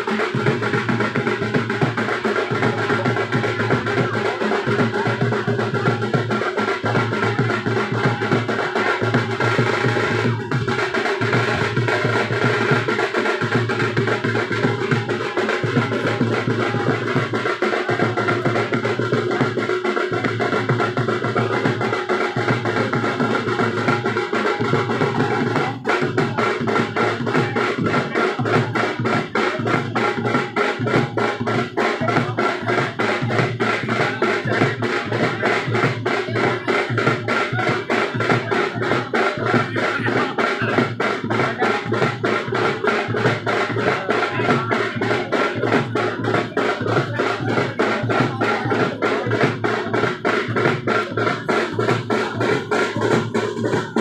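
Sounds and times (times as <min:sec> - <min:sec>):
fast drumming: 0:00.0 - 0:54.0.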